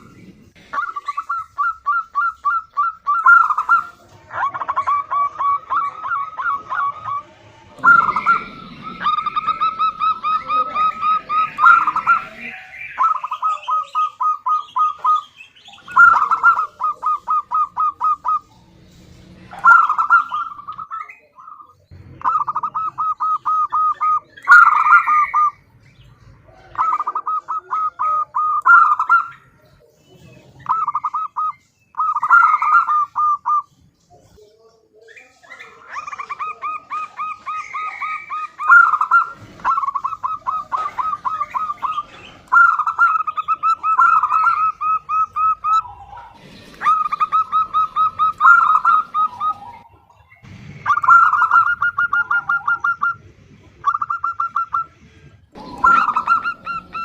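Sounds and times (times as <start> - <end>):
dove calling: 0.0 - 57.0.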